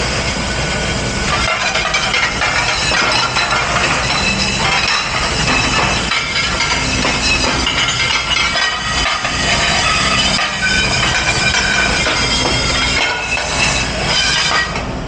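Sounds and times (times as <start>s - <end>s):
steady machine noise: 0.0s - 15.0s
dishes and glassware clattering: 1.3s - 14.9s.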